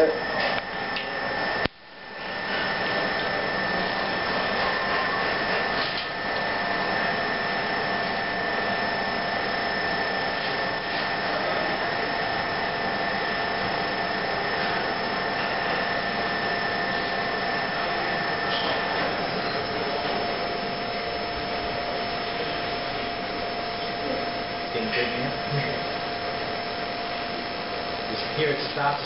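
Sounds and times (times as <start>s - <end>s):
high whine: 0.0s - 29.0s.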